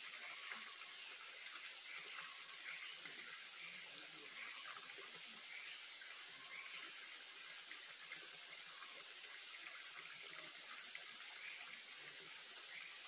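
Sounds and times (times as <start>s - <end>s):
high-pitched insect chorus: 0.0s - 13.0s
stream babbling: 0.0s - 13.0s.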